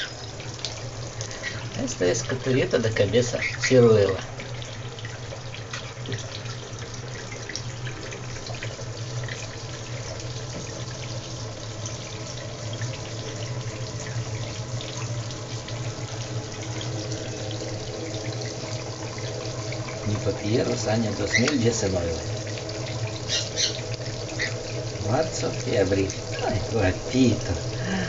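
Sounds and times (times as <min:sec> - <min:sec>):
shower water running into bathtub: 0:00.0 - 0:28.0
water splashing on birds: 0:00.0 - 0:28.0.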